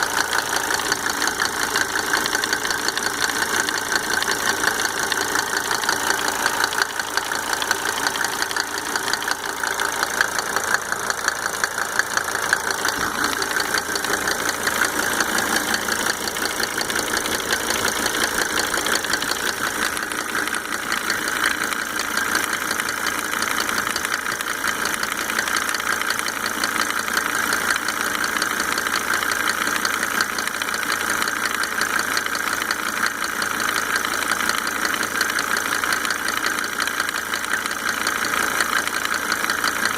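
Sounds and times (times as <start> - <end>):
diesel engine ticking: 0.0 - 39.9.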